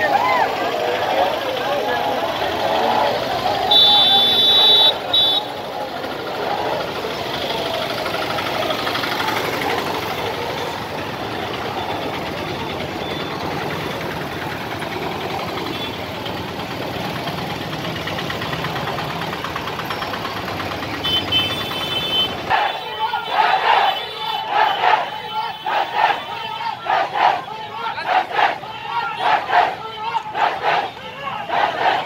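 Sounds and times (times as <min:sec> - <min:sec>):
small engines idling in traffic: 0:00.0 - 0:32.0.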